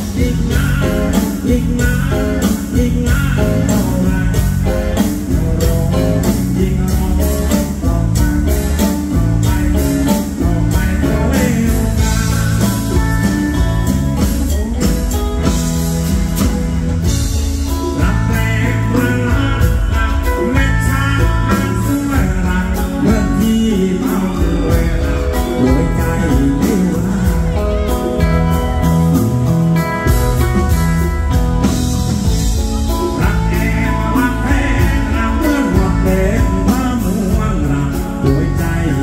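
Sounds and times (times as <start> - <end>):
man singing: 0.0 - 15.6, 17.6 - 30.2, 32.2 - 39.0
bass: 0.0 - 39.0
drums: 0.0 - 39.0
guitars: 0.0 - 39.0.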